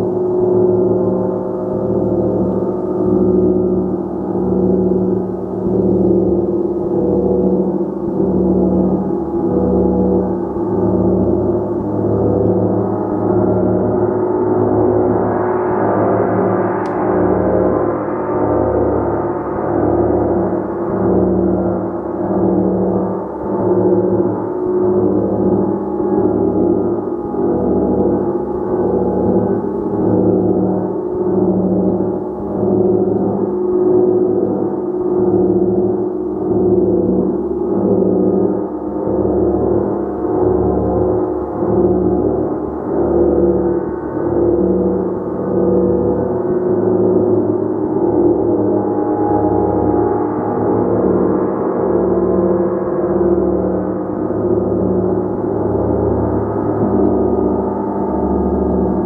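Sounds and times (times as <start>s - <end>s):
large gong resonating: 0.0s - 59.0s.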